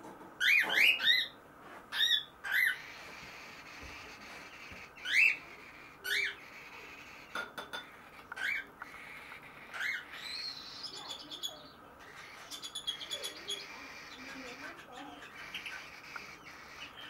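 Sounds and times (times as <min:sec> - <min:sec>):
baby cockatiels squawking: 0:00.4 - 0:17.0.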